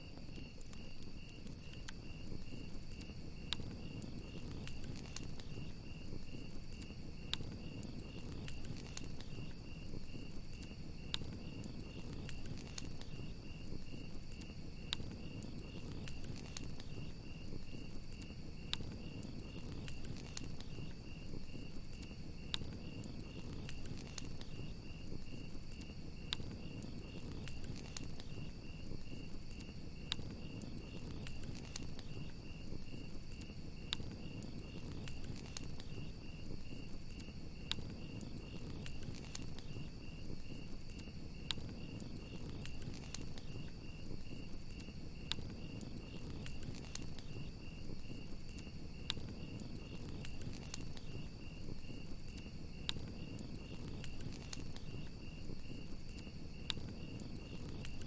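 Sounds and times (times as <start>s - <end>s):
campfire crackling and popping: 0.0s - 58.0s
crickets chirping: 0.0s - 58.0s
low rumble of flame: 0.0s - 58.0s.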